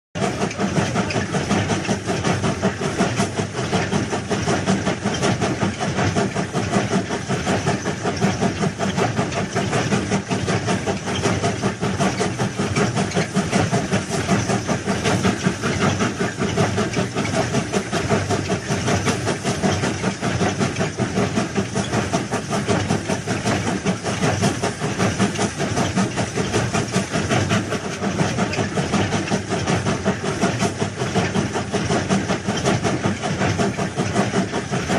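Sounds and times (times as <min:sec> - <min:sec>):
fast uneven rattle: 0:00.2 - 0:34.9
heavy machinery engine running: 0:00.2 - 0:34.9.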